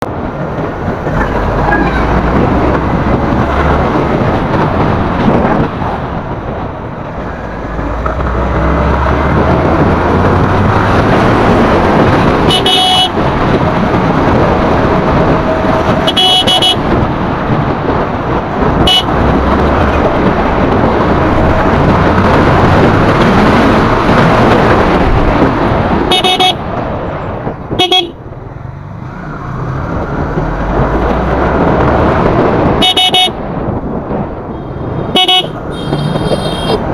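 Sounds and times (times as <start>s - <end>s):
rushing wind: 0.0s - 36.9s
traffic noise: 0.0s - 36.9s.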